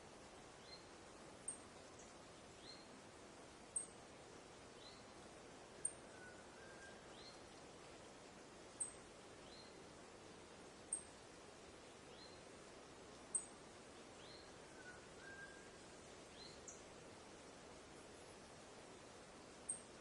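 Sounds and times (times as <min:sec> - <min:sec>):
soft steady hiss: 0:00.0 - 0:20.0.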